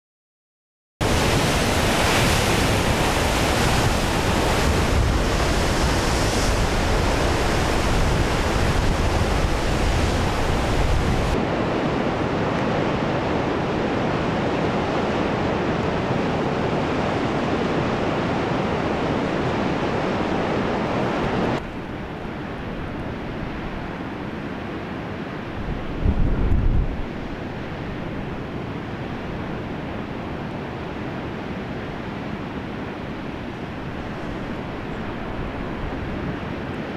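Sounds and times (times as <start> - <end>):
ocean surf: 1.0 - 36.9
wind rushing over microphone: 1.0 - 36.9.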